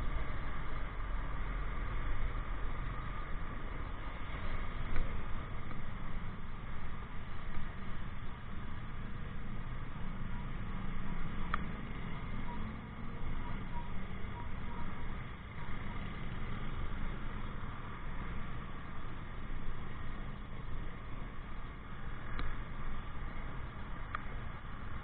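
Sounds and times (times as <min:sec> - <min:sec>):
motorcycle engine rumble: 0:00.0 - 0:25.0.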